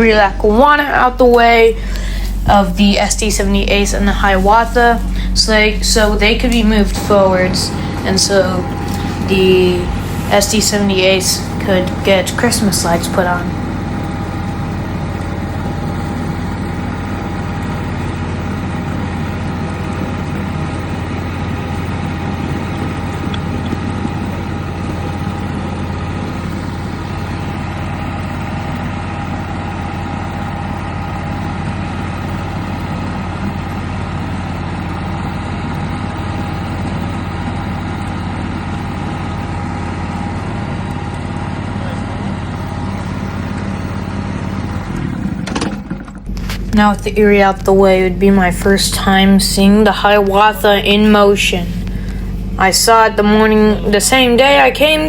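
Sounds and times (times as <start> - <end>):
ride-on locomotive running: 0.0 - 55.0.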